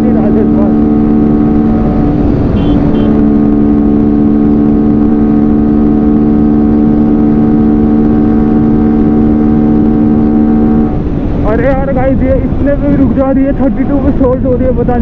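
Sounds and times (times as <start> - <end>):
motorcycle engine at high revs: 0.0 - 13.2.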